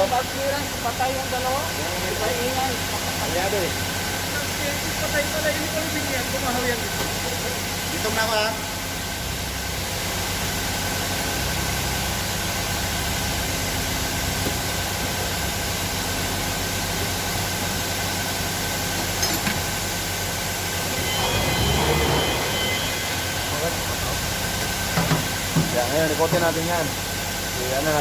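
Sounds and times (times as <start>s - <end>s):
diesel engine idling and misfiring: 0.0s - 28.0s.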